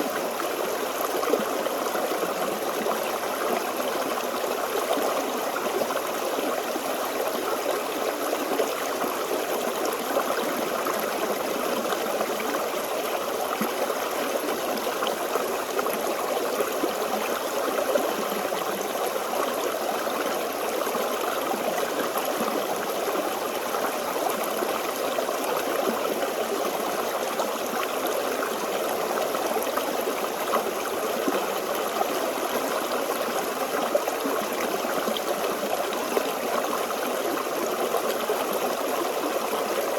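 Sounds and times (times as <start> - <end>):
stream gurgling over rocks: 0.0 - 39.9.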